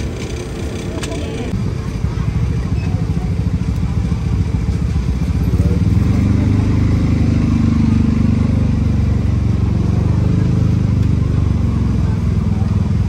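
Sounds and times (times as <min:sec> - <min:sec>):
engine idling rumble: 0:00.0 - 0:13.0.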